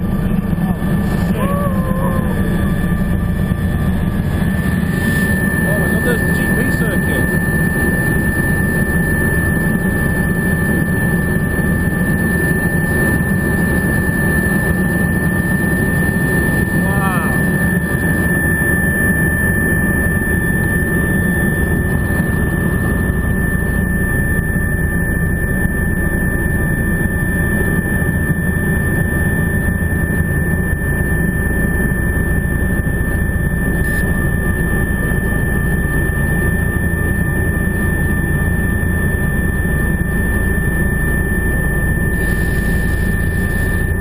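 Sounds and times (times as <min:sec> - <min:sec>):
constant high whine: 0:00.0 - 0:44.0
helicopter engine and rotor noise: 0:00.0 - 0:44.0.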